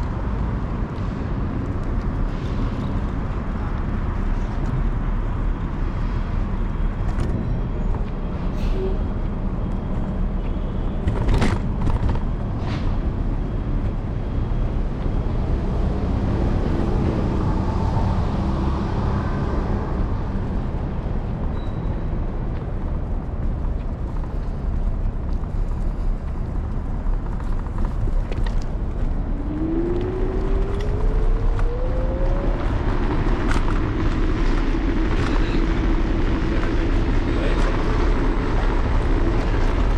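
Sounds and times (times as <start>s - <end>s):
street traffic: 0.0s - 39.9s
wind rumble: 0.0s - 39.9s.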